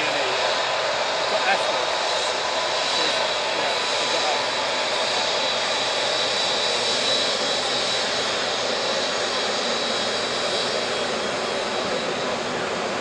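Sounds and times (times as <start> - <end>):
high thin engine whine: 0.0 - 13.0
jet engines taxiing: 0.0 - 13.0.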